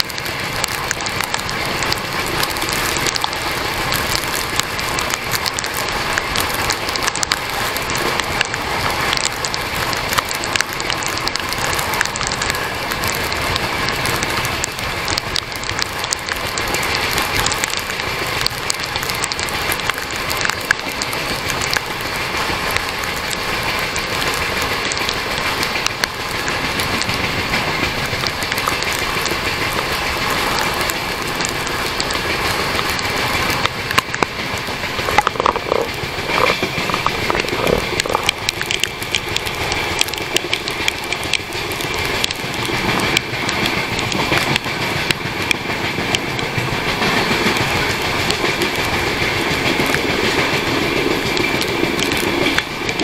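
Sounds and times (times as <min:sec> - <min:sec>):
crackles: 0:00.0 - 0:53.0
heavy rain: 0:00.0 - 0:53.0
moving train rush: 0:00.0 - 0:53.0
wind: 0:00.0 - 0:53.0.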